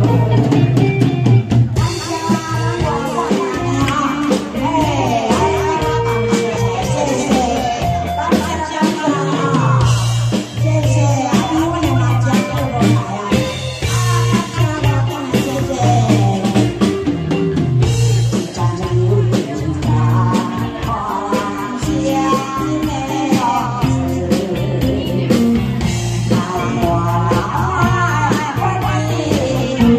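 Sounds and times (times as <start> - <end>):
live band with bass drums and guitar: 0.0 - 29.9
woman singing into microphone: 1.8 - 16.9, 18.3 - 29.9.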